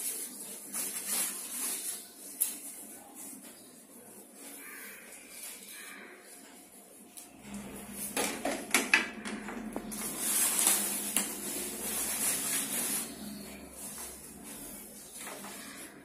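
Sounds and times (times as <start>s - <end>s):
plastic wrapping crinkling: 0.0s - 8.8s, 9.6s - 16.0s.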